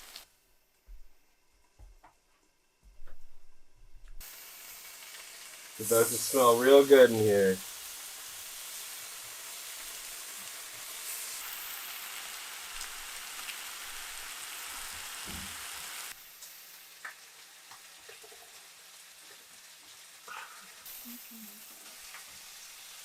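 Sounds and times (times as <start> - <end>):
food sizzling in a pan: 0.0 - 0.3, 4.2 - 23.0.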